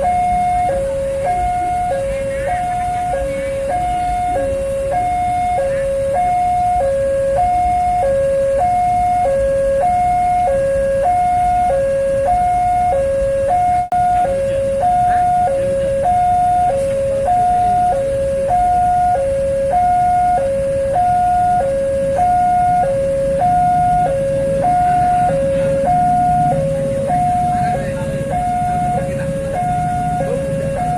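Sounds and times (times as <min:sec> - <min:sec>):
low rumble of traffic: 0:00.0 - 0:30.9
two-tone crossing alarm: 0:00.0 - 0:30.9.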